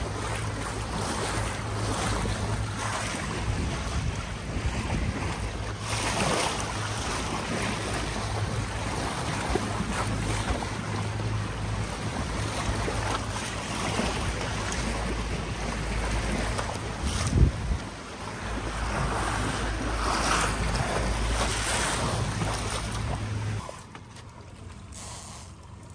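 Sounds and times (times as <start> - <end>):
boat motor running: 0.0 - 25.9
water rushing past hull: 0.0 - 25.9
wind buffeting microphone: 1.0 - 23.6.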